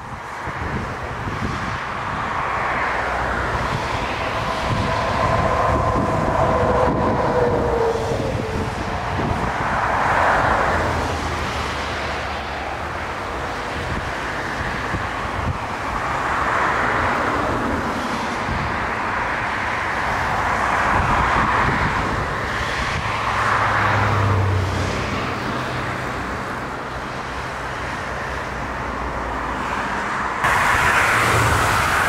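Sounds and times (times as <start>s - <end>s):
jet engines running loud: 0.0s - 28.9s, 29.6s - 32.0s
strong wind: 0.0s - 32.0s.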